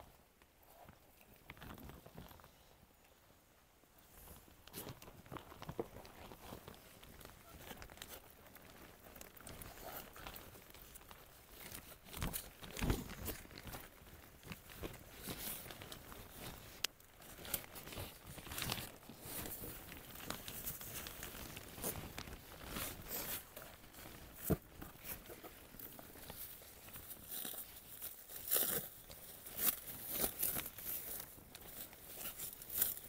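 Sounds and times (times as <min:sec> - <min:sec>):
packaging crinkling and rustling: 0:04.2 - 0:33.0.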